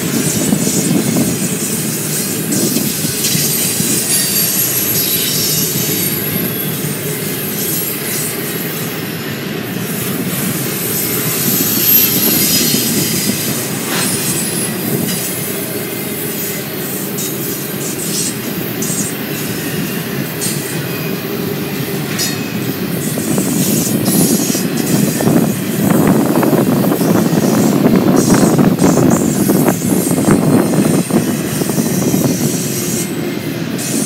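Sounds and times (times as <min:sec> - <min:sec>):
train wheels rumbling on rails: 0:00.0 - 0:34.0
high-pitched wheel squeals: 0:01.8 - 0:34.0.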